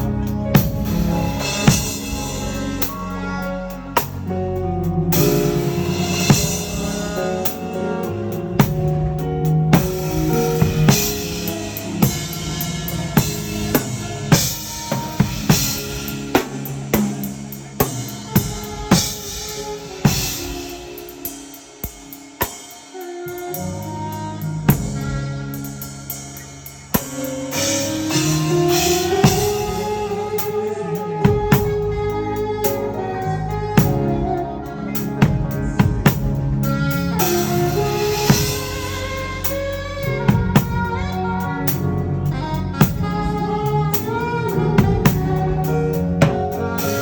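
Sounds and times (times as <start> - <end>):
bass: 0.0 - 47.0
drum kit: 0.0 - 47.0
held melodic notes: 0.0 - 47.0.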